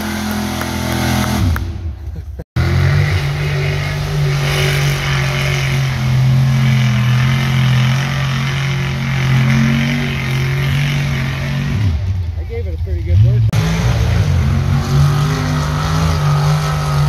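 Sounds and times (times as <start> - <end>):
truck engine droning steadily: 0.0 - 17.0.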